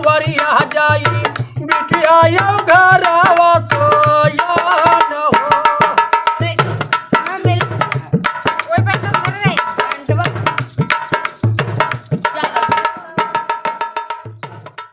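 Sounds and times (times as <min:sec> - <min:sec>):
hand drum rhythm: 0:00.0 - 0:14.9.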